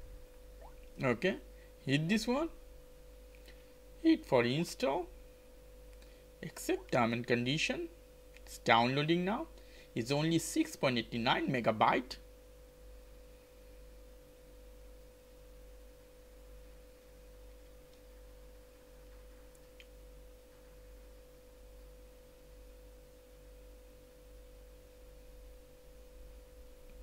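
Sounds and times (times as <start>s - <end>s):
faint hum with held tone: 0.0s - 27.0s.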